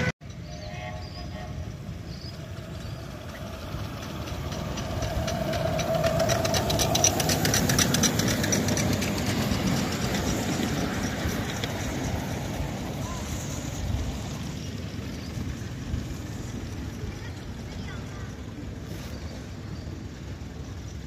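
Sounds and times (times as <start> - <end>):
locomotive humming: 0.0 - 21.0
train wheels clicking over rail joints: 1.5 - 21.0.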